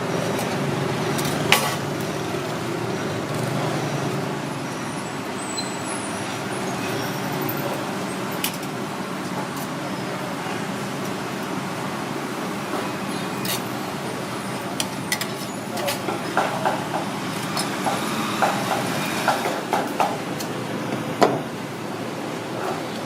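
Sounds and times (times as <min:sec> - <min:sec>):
street traffic engine rumble: 0:00.0 - 0:23.0.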